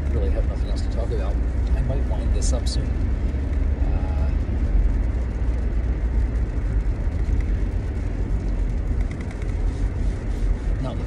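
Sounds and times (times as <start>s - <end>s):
car interior road rumble: 0.0s - 11.0s.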